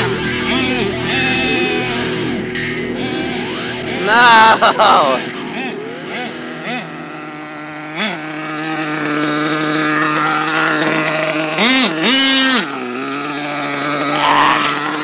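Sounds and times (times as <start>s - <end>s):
small nitro engine revving: 0.0s - 15.0s.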